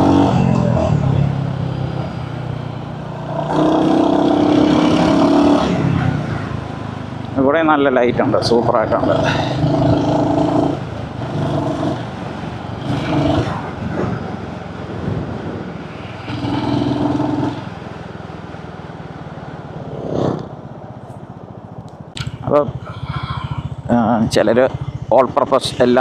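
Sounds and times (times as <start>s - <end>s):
motorcycle engine revving: 0.0s - 26.0s
wind and road rush: 0.0s - 26.0s.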